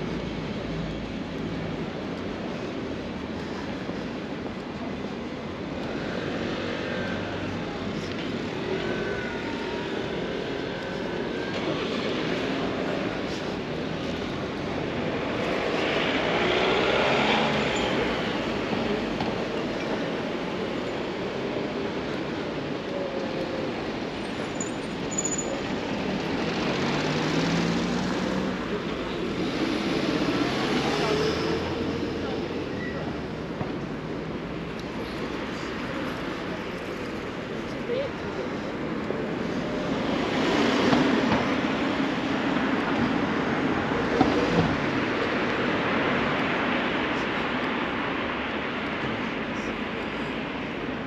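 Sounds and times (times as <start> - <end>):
city street noise: 0.0 - 51.0
passing motor traffic: 0.0 - 51.0.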